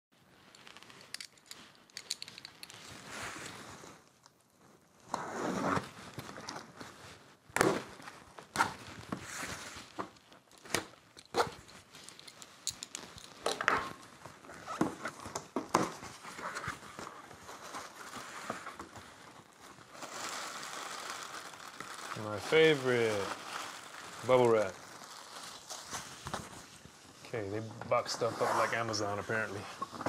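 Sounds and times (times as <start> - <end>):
cardboard and tape rustling: 0.4 - 30.0.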